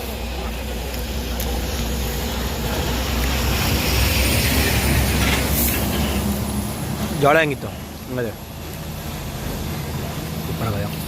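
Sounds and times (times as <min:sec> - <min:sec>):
road and wind hiss: 0:00.0 - 0:11.0
vehicle low rumble: 0:00.0 - 0:11.0.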